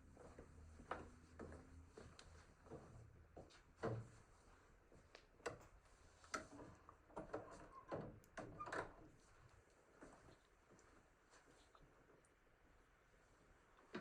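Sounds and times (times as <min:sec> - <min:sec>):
faint clicks and taps: 0:00.2 - 0:04.2, 0:04.9 - 0:12.4.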